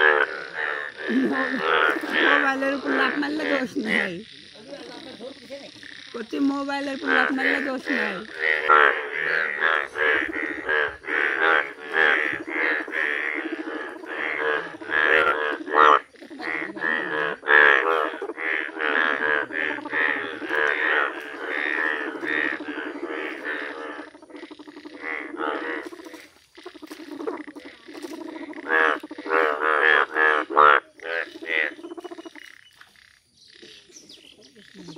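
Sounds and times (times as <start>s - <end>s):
frogs croaking in chorus: 0.0s - 34.9s.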